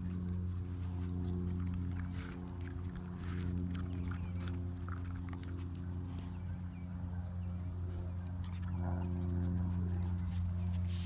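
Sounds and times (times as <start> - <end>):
dog chewing watermelon: 0.0 - 11.0
steady low hum: 0.0 - 11.0.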